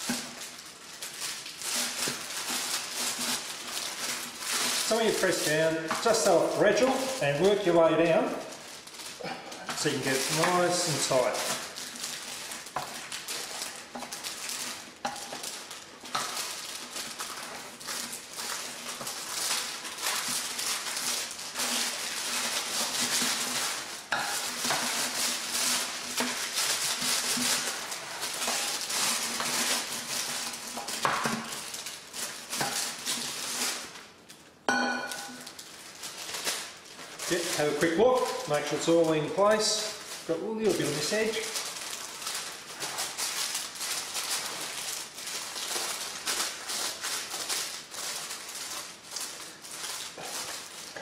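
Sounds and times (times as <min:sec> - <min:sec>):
parchment paper crinkling: 0:00.0 - 0:51.0.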